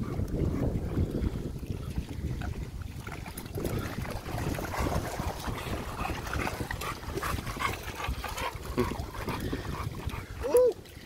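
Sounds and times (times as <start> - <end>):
dogs splashing through water: 0.0 - 11.0
wind rumble on microphone: 0.0 - 11.0.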